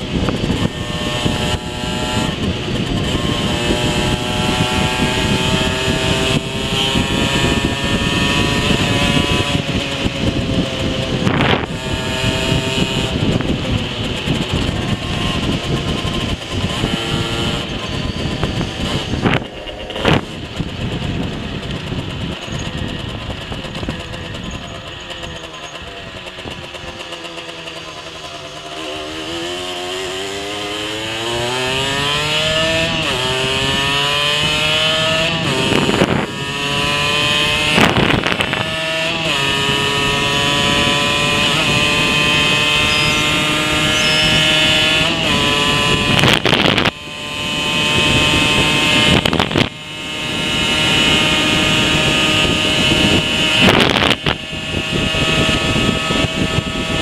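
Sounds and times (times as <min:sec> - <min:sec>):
moped engine revving through gears: 0:00.0 - 0:57.0.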